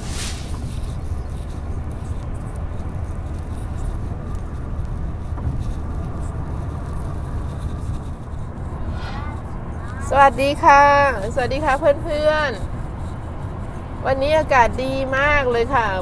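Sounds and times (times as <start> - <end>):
car road and tyre rumble: 0.0 - 16.0.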